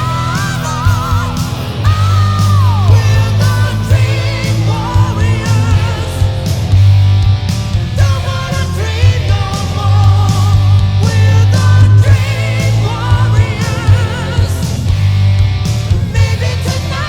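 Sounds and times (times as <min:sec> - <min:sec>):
wavering sung vocal: 0:00.0 - 0:06.6, 0:07.9 - 0:15.2, 0:15.9 - 0:17.0
rock song: 0:00.0 - 0:17.0.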